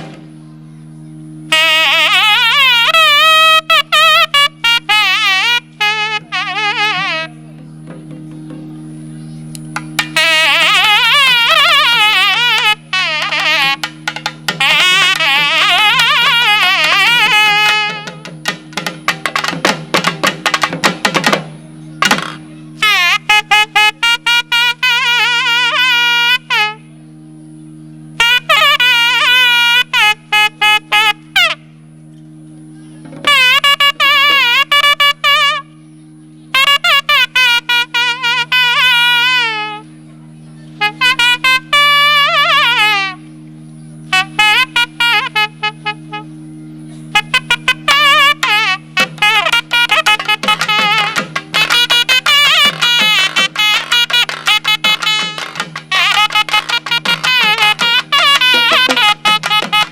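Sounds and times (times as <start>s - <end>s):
reed pipe ornamented melody: 0.0s - 59.9s
steady drone: 0.0s - 59.9s.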